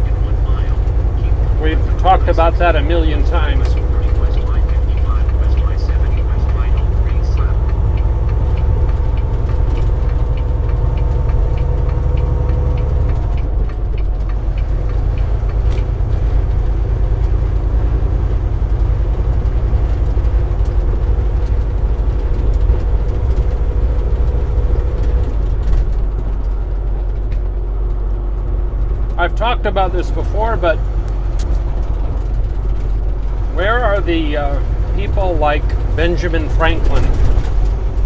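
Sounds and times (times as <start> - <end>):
diesel engine rumble: 0.0 - 38.0
road noise: 0.0 - 38.0.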